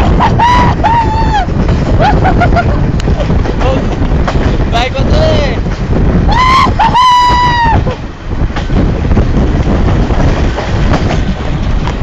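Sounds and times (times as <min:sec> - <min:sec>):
train rumbling: 0:00.0 - 0:12.0
wind on microphone: 0:00.0 - 0:12.0.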